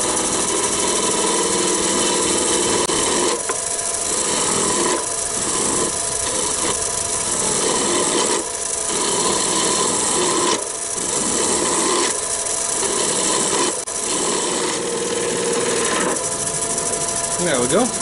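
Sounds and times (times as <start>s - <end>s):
gouge shaving wood on a lathe: 0.0s - 16.4s
lathe motor humming: 0.0s - 18.0s.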